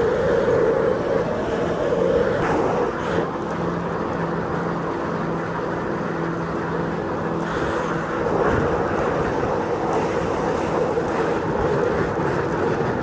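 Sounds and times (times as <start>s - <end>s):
broad rushing noise: 0.0s - 13.0s
powerboat engine humming: 0.0s - 13.0s.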